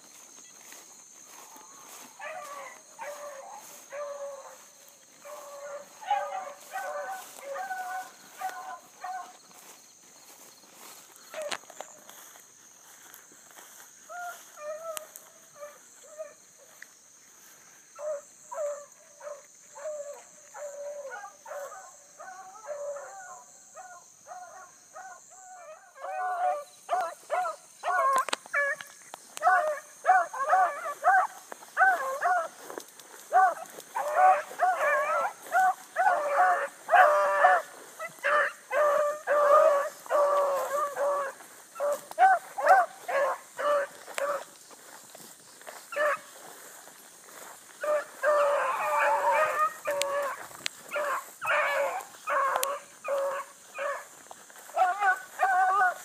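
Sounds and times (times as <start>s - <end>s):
hounds baying: 0.1s - 12.2s, 13.6s - 56.0s.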